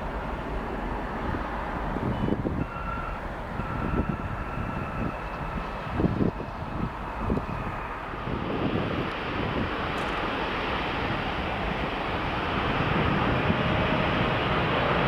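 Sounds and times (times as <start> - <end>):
faint jet engine whine: 0.0 - 15.0
jet engines roaring: 0.0 - 15.0.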